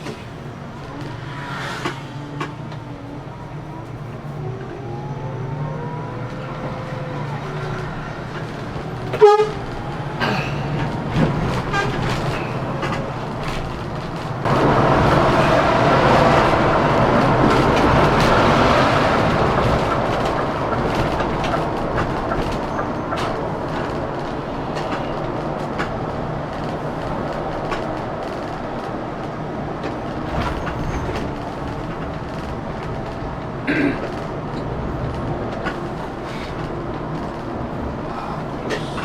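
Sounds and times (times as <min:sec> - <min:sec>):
diesel coach engine hum: 0:00.0 - 0:39.0
tyre and road noise: 0:00.0 - 0:39.0.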